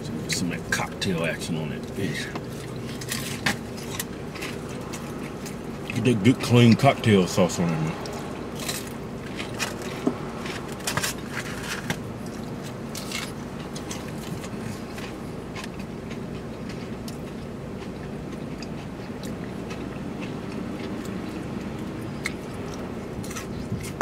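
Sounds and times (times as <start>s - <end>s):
food in takeout containers crackling: 0.0s - 24.0s
steady low hum: 0.0s - 24.0s
chewing: 0.2s - 24.0s.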